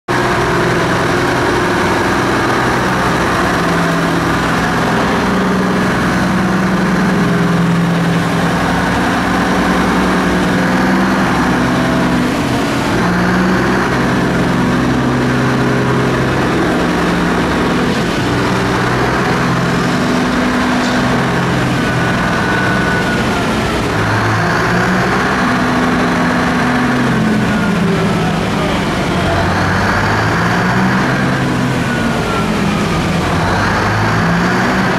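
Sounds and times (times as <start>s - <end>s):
dump truck diesel engine running: 0.1s - 34.9s.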